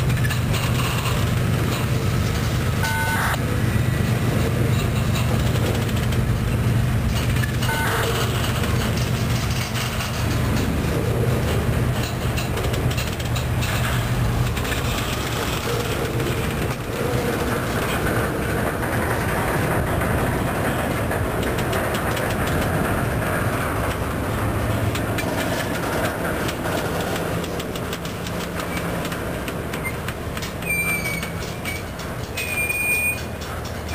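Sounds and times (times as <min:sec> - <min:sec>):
freight train rumbling past: 0:00.0 - 0:33.9
wheels clicking over rail joints: 0:00.0 - 0:33.9.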